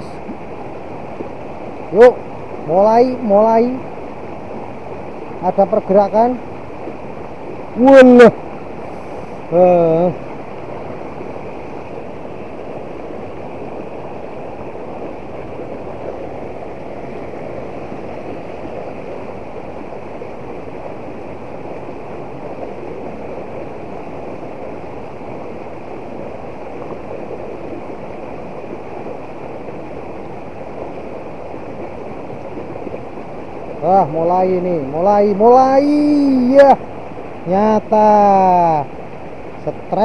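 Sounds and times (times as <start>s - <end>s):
river rushing over stones: 0.0s - 40.0s.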